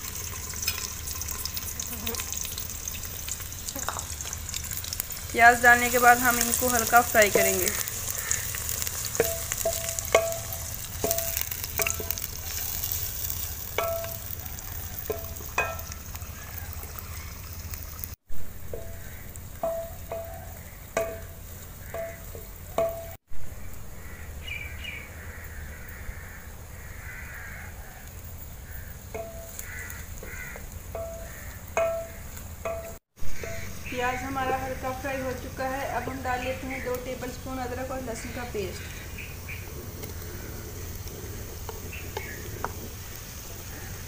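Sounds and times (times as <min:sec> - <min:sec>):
onions sizzling in a pot: 0:00.0 - 0:26.1, 0:26.7 - 0:44.0.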